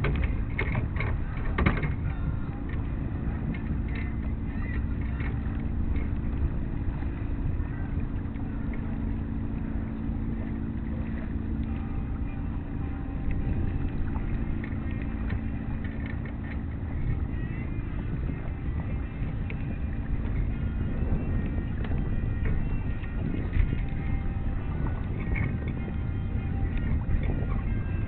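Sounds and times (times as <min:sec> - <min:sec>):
boat engine running: 0:00.0 - 0:28.0
wind rumble on microphone: 0:00.0 - 0:28.0.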